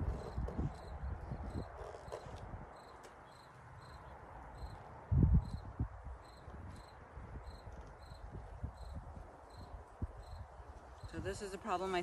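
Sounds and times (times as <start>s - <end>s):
cricket chirping: 0.2s - 11.1s.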